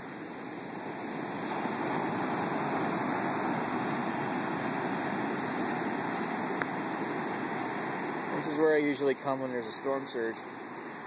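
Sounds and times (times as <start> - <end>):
loud surf breaking on beach: 0.0 - 11.0.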